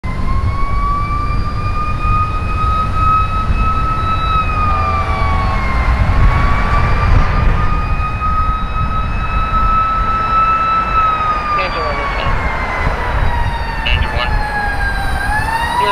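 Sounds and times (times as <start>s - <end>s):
fire engine siren wailing: 0.0s - 15.9s
road traffic rumbling: 0.0s - 15.9s.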